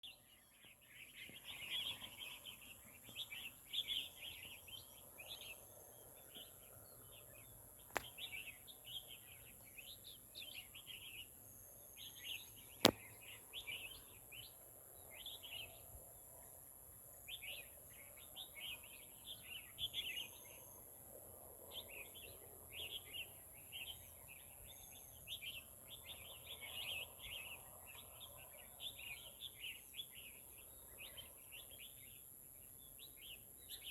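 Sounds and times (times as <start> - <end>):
small birds chirping: 0.0 - 21.0, 21.7 - 33.9
steady high-pitched hiss: 0.1 - 33.9.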